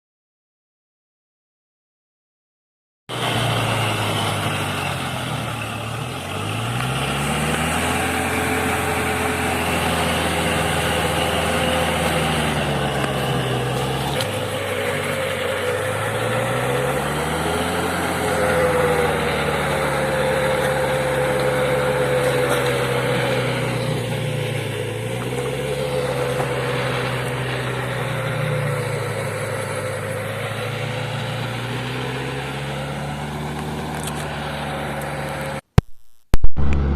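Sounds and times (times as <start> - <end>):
tractor diesel engine running: 3.1 - 35.6, 36.6 - 36.9.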